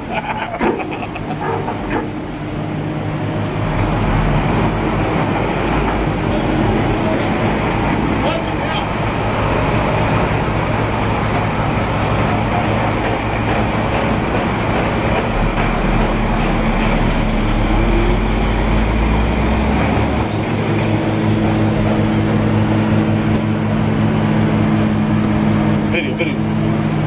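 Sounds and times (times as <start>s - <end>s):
deep drone: 0.0s - 27.0s
engine humming: 0.0s - 27.0s.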